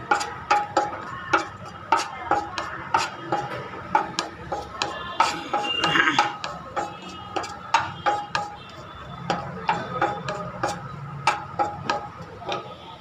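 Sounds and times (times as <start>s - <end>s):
utensil knocking and scraping pan: 0.0s - 12.7s.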